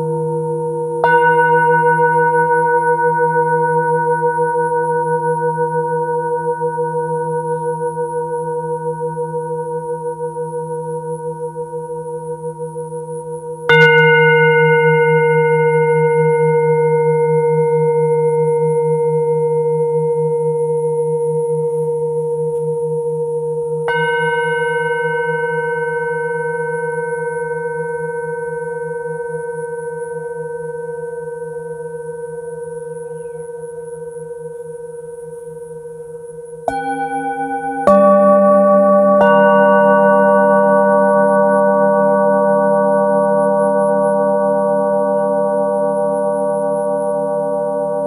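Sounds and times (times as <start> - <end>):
singing bowl ringing: 0.0 - 48.0.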